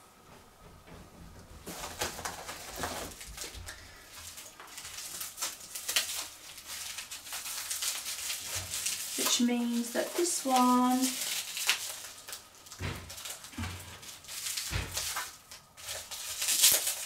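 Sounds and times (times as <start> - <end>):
wrapping crinkling and rustling: 1.6 - 17.0.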